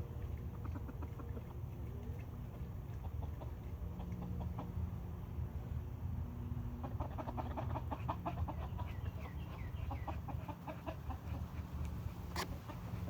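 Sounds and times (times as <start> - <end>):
chickens clucking: 0.0 - 5.3, 6.7 - 13.0.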